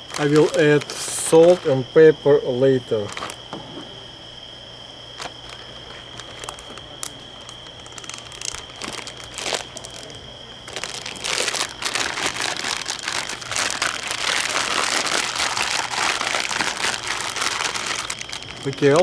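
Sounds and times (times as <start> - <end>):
plastic bag crinkling: 0.0 - 1.7, 5.2 - 19.0.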